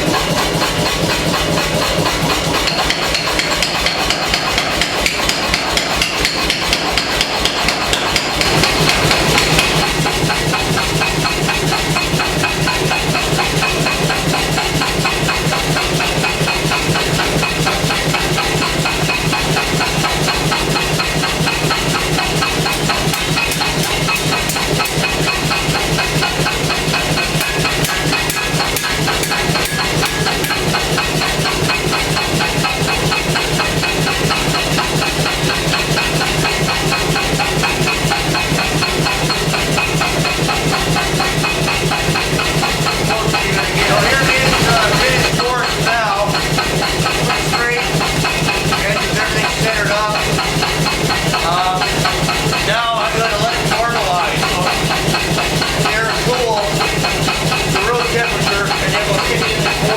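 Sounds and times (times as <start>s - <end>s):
air hammer pounding steel: 0.0s - 59.9s.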